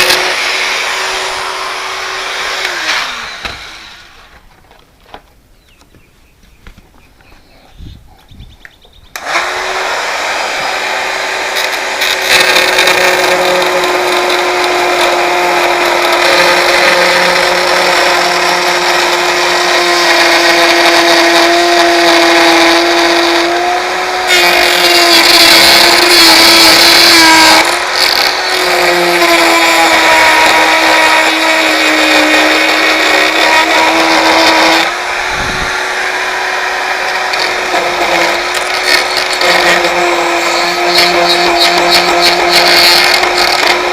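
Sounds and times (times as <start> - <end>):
power tool motor running: 0.0 - 4.4, 9.1 - 43.9.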